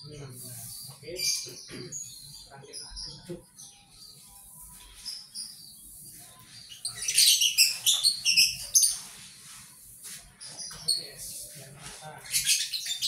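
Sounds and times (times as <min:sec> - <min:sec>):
shrill bird chirping: 0:00.0 - 0:11.6, 0:12.3 - 0:13.0.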